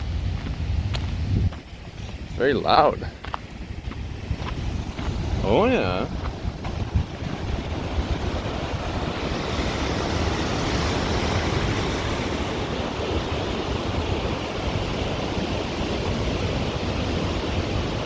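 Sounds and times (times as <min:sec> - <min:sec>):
wind rumbling on microphone: 0:00.0 - 0:18.0
river water rushing: 0:01.7 - 0:18.0.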